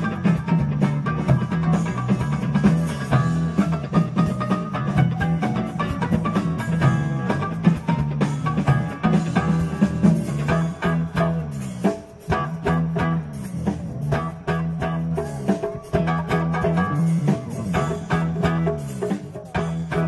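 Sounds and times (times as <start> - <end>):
bass guitar: 0.0 - 20.0
drums: 0.0 - 20.0
electric guitar: 0.0 - 20.0.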